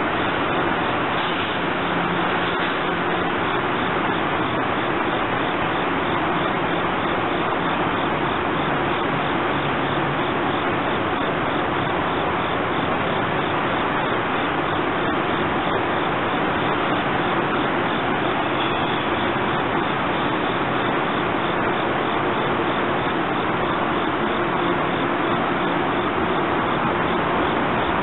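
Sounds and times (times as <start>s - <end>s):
electric train idling hum: 0.0s - 28.0s.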